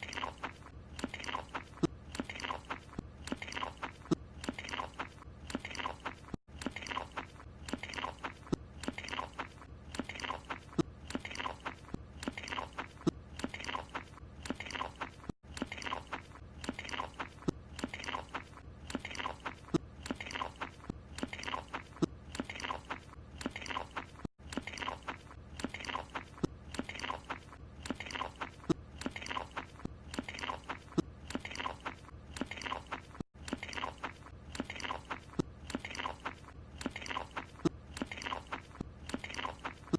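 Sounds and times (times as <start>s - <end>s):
crunchy munching: 0.0s - 39.9s.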